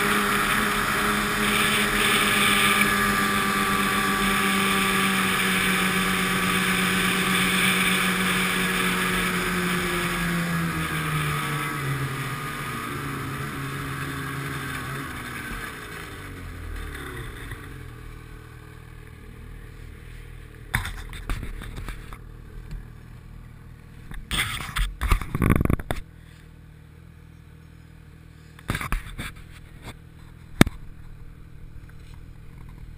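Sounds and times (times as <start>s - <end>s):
snowmobile engine: 0.0s - 32.9s.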